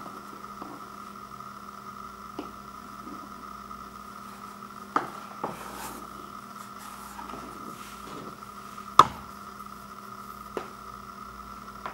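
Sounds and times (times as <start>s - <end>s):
faint background hum: 0.0s - 11.9s.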